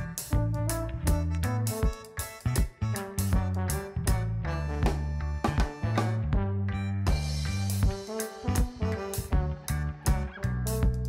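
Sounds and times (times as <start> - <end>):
steady drum beat: 0.0 - 6.5, 7.1 - 11.0.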